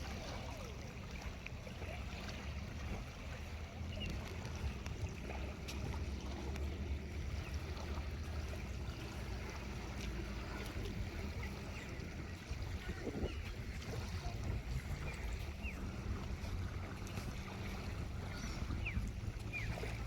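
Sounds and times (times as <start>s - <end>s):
water washing: 0.0s - 20.0s
wind rumble on microphone: 0.0s - 20.0s.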